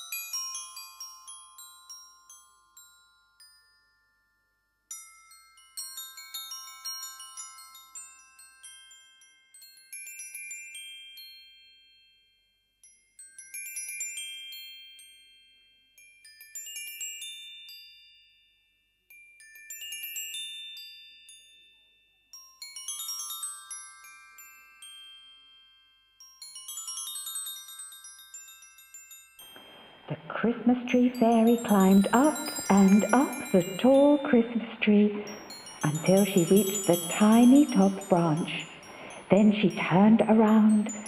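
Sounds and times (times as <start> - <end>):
tinkling chime music: 0.0 - 30.1, 30.8 - 41.0.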